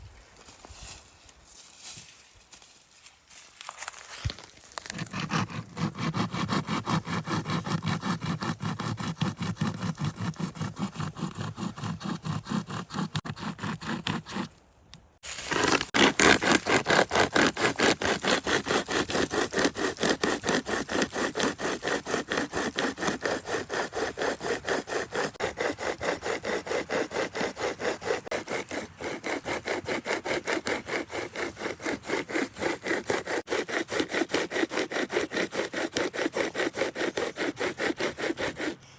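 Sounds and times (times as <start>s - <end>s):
hand saw cutting wood: 4.8s - 14.6s, 15.2s - 38.9s.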